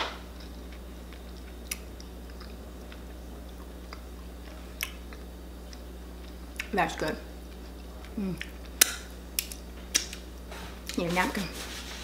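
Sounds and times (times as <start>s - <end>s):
low steady hum: 0.0s - 12.0s
person chewing: 0.3s - 6.7s, 7.4s - 11.0s.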